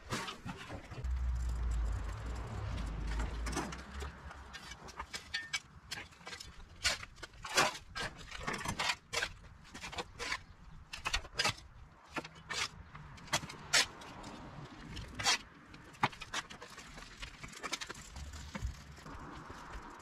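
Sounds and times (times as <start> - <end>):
garden hand tools scraping: 2.4 - 18.8.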